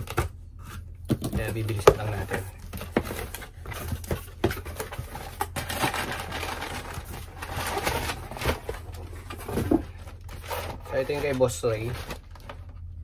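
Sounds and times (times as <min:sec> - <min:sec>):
cardboard rustling: 0:00.0 - 0:12.8.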